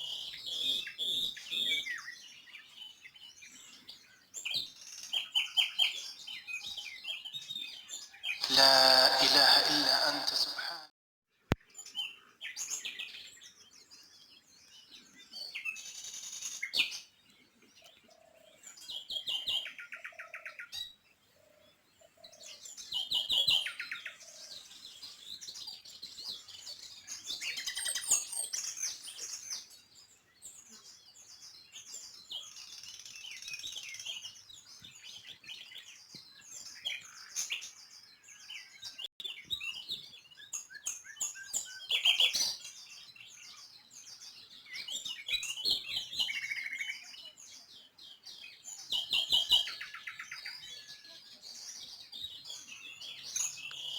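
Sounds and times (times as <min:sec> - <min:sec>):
small birds chirping and singing: 0:00.0 - 0:10.6, 0:11.5 - 0:53.9.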